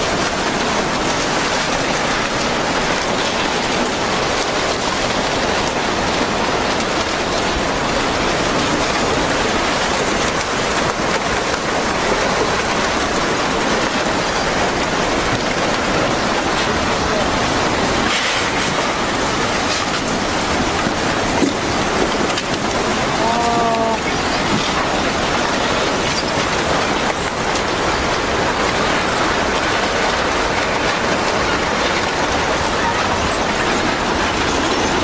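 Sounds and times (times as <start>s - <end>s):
water rushing: 0.0s - 35.0s.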